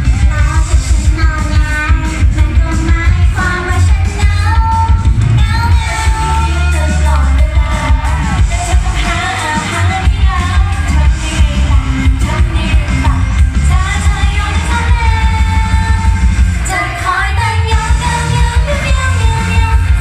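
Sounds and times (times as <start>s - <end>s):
backing track with heavy beat: 0.0s - 20.0s
women singing pop song: 0.0s - 20.0s.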